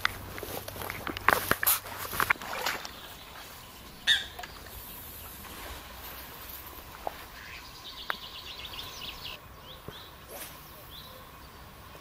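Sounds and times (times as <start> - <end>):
songbird singing: 0.0 - 12.0
steady background noise: 0.0 - 12.0.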